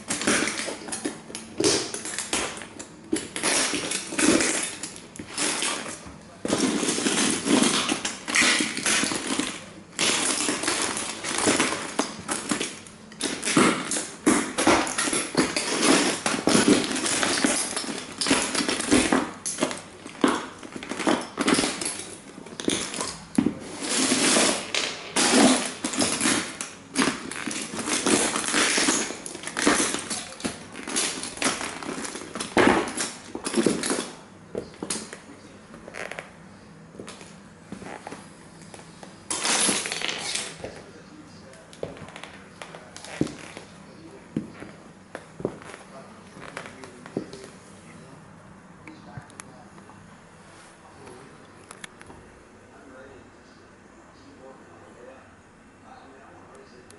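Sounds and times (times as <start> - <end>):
boots crunching plastic toys: 0.0 - 36.3, 36.9 - 47.5.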